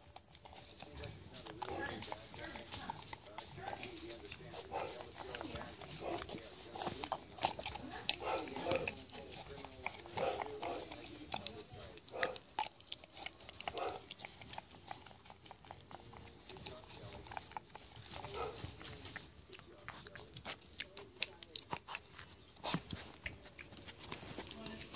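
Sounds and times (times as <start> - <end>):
pig chewing and smacking: 0.0 - 24.9.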